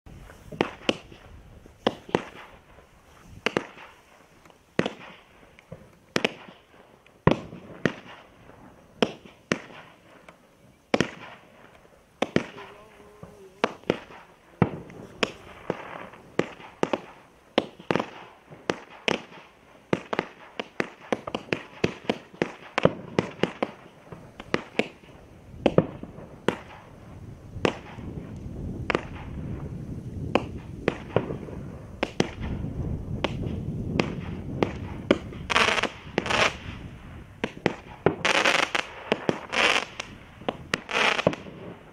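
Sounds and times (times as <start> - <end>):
firework crackling: 0.1 - 41.9
firework pops: 0.2 - 8.3, 9.0 - 26.9, 27.6 - 41.8.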